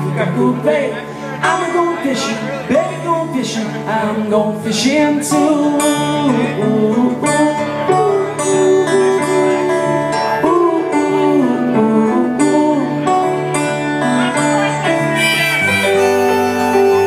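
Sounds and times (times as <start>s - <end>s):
acoustic guitar strumming: 0.0s - 17.0s
melodic lead line bending: 0.0s - 17.0s.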